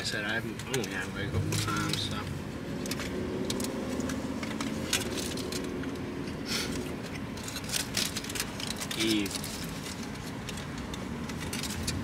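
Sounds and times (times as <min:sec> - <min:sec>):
aluminium foil crinkling: 0:00.1 - 0:02.2, 0:02.8 - 0:06.0, 0:06.8 - 0:12.0.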